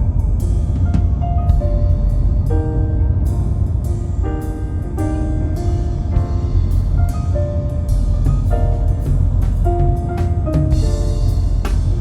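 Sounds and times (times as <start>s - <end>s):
held instrumental notes: 0.0s - 12.0s
drum beat: 0.4s - 12.0s.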